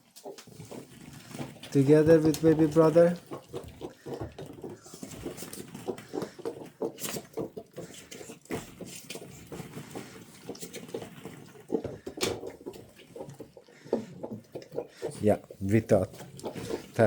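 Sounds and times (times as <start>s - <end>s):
plastic balls clattering: 0.0s - 17.0s.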